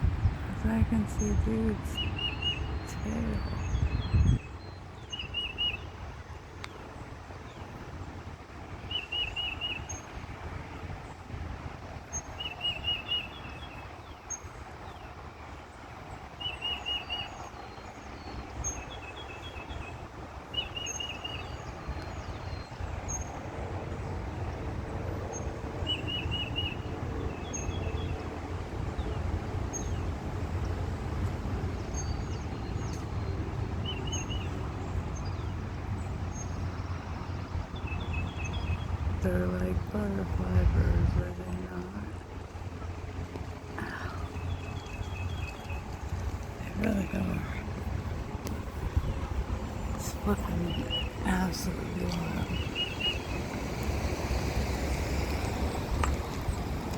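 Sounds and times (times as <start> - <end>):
low steady rumble: 0.0 - 56.9.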